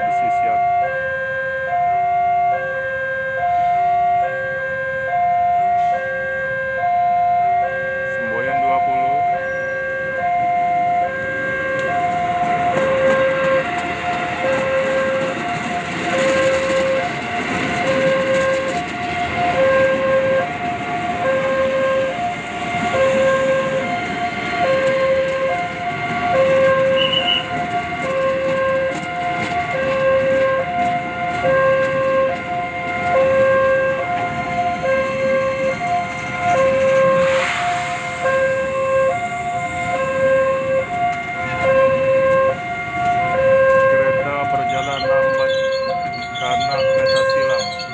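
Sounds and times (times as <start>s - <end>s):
level crossing two-tone alarm: 0.0s - 47.9s
train rushing past: 8.5s - 47.9s.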